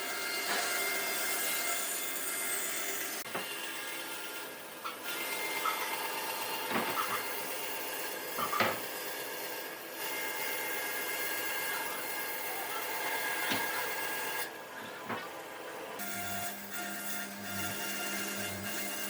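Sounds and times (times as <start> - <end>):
power tool running on wood: 0.0 - 14.6, 16.0 - 19.0.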